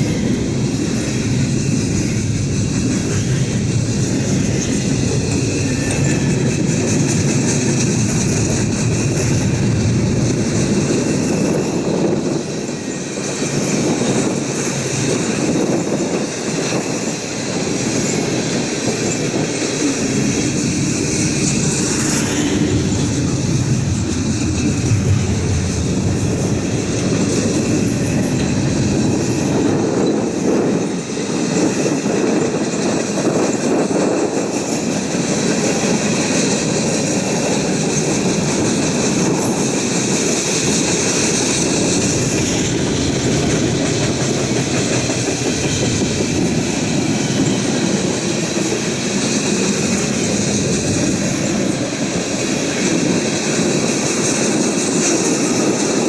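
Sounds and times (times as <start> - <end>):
freight train rolling past: 0.0 - 56.0
train wheels clacking: 0.0 - 56.0.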